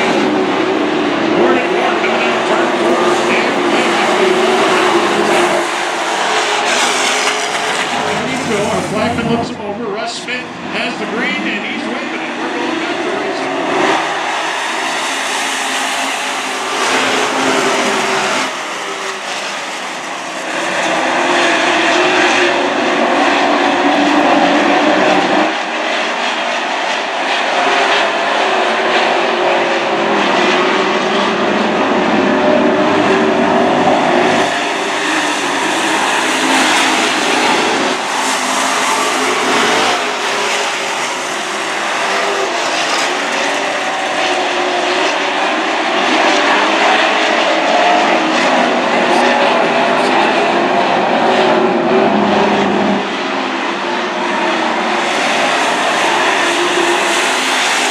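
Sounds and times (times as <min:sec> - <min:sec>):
race truck engines passing: 0:00.0 - 0:57.9.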